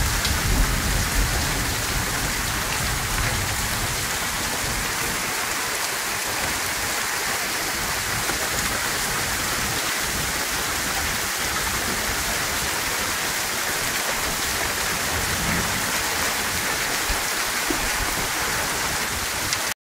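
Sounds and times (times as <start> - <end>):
steady rain falling: 0.0 - 19.8.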